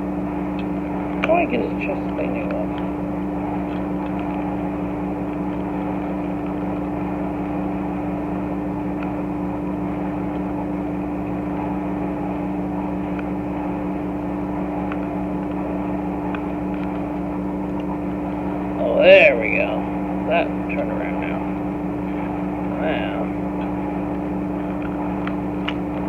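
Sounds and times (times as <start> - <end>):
machine-like hum: 0.0 - 26.0.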